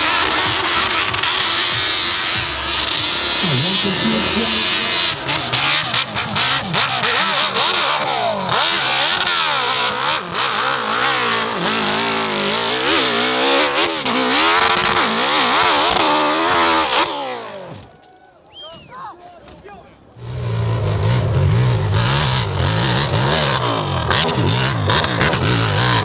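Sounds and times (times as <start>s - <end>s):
dirt bike engine revving: 0.0s - 17.9s, 20.2s - 26.0s.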